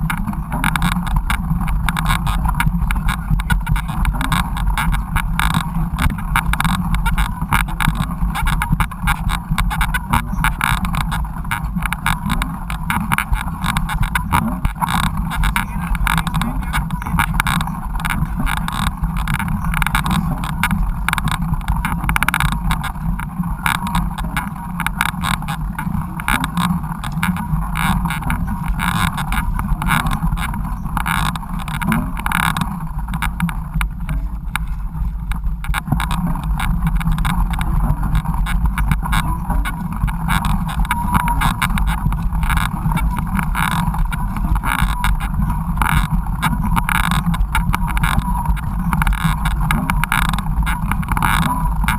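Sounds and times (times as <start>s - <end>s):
bike rattle and rumble: 0.0s - 51.9s.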